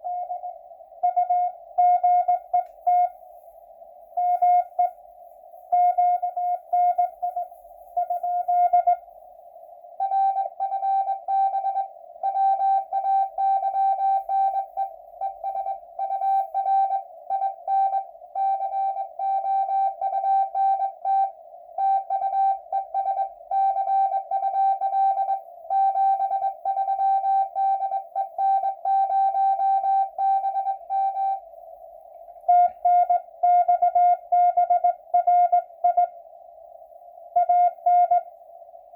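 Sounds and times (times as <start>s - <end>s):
morse code tones: 0.0s - 3.2s, 4.2s - 5.0s, 5.7s - 9.0s, 10.0s - 31.5s, 32.4s - 36.2s, 37.4s - 38.3s
receiver hiss: 0.0s - 38.9s.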